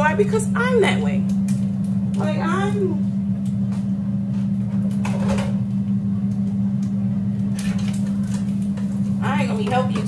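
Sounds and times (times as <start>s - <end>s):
appliance electrical hum: 0.0s - 10.0s.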